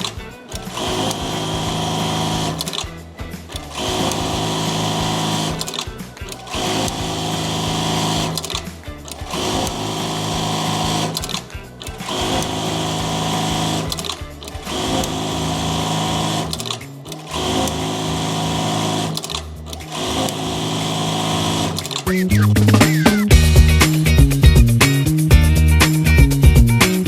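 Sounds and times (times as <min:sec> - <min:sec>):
sewing machine running: 0:00.0 - 0:25.0.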